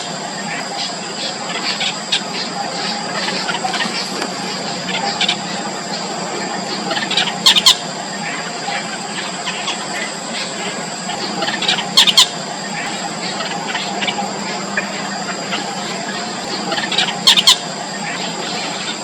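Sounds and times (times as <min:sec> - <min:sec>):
faint bird chirps: 0:00.0 - 0:19.0
nestling birds squealing: 0:00.0 - 0:19.0
steady background hiss: 0:00.0 - 0:19.0.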